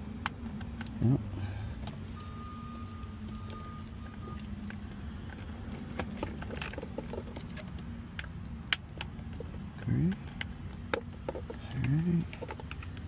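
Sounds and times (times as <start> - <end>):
steady low hum: 0.0 - 13.0
plastic connectors and wires rattling: 1.7 - 13.0.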